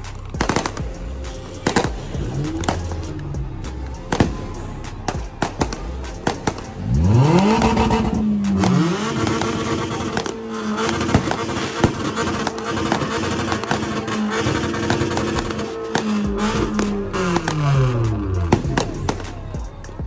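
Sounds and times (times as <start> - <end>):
car engine revving: 0.0 - 19.5
fireworks banging and crackling: 0.0 - 19.8.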